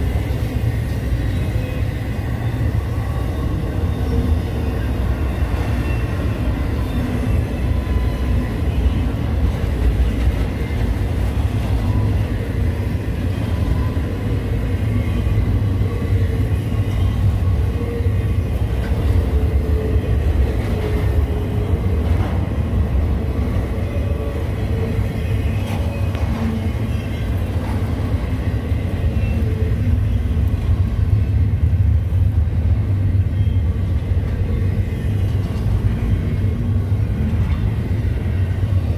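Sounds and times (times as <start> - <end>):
train wheels rumbling on rail: 0.0 - 38.9
wheels squealing: 0.1 - 31.3.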